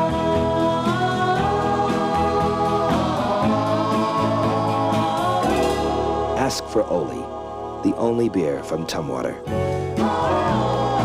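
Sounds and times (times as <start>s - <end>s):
jingle music with singing: 0.0s - 11.0s.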